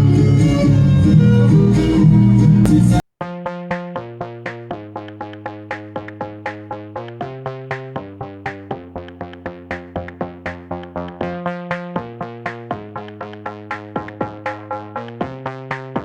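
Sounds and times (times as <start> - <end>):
electronic music with steady beat: 0.0 - 16.0.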